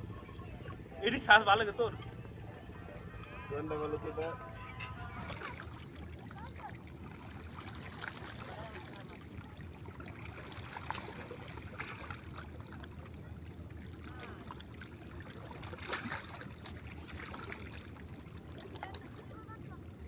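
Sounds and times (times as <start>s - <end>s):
faint water sounds: 0.0s - 20.0s.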